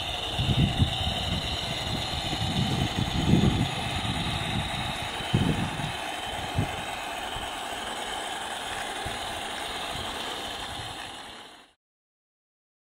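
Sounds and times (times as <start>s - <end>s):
model train running on track: 0.0s - 11.8s.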